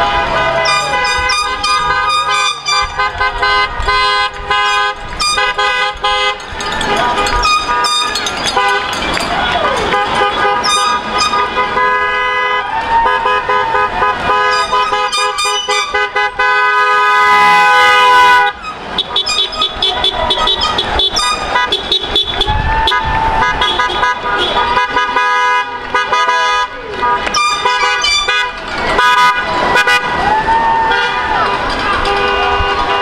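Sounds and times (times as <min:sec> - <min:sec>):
car horns honking: 0:00.0 - 0:33.0
passing cars: 0:00.0 - 0:33.0.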